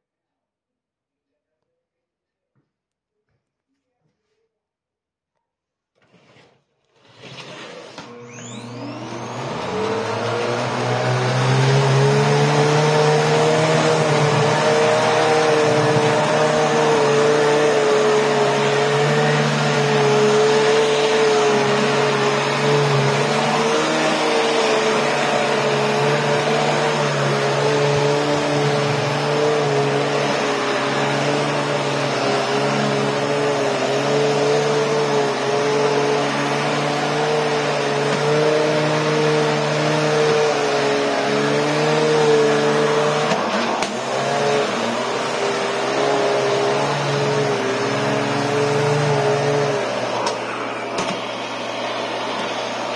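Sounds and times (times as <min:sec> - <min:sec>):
vacuum cleaner motor whine: 0:07.0 - 0:52.9.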